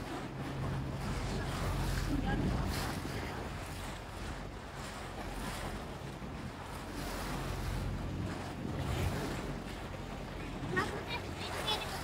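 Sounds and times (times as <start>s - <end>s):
boat engine hum: 0.0s - 12.0s
water rushing along hull: 0.0s - 12.0s
wind buffeting microphone: 0.0s - 12.0s.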